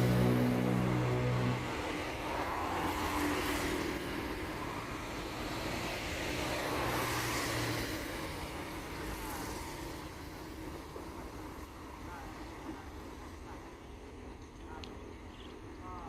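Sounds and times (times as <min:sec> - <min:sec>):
road traffic passing: 0:00.0 - 0:14.3.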